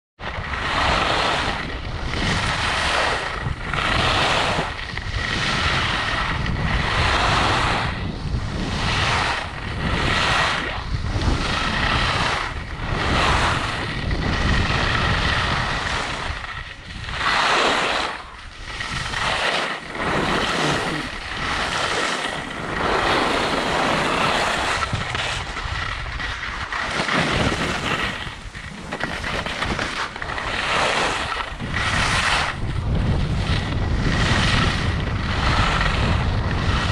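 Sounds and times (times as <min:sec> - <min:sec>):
skis scraping on snow: 0:00.2 - 0:36.9
wind rushing over microphone: 0:00.2 - 0:36.9.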